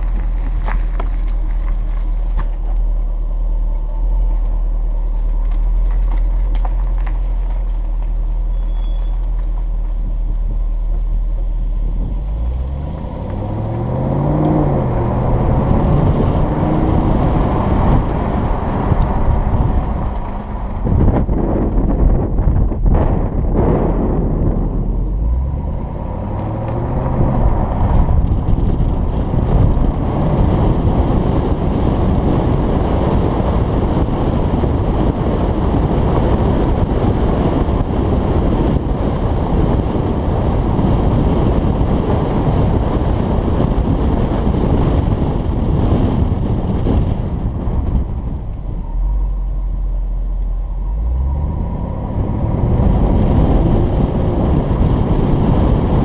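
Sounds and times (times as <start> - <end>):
car engine exhaust: 0.0 - 56.0
rushing wind and road noise: 0.0 - 56.0.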